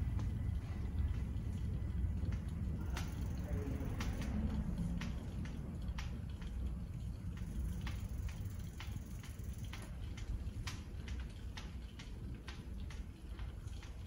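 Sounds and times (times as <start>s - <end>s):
bicycle ticking: 0.0s - 14.0s
low rumble of tyres on concrete: 0.0s - 14.0s.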